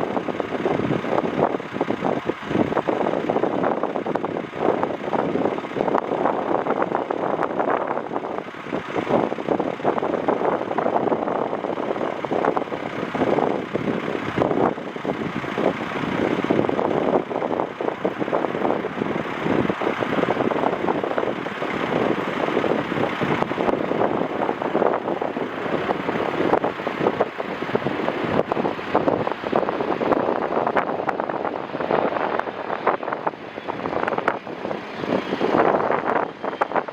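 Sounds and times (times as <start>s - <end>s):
gusty wind buffeting microphone: 0.0s - 36.9s.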